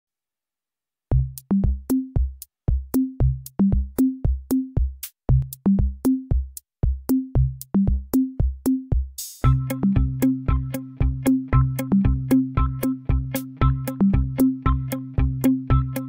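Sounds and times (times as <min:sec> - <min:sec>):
electronic music with drum-machine beat: 0:01.1 - 0:16.0.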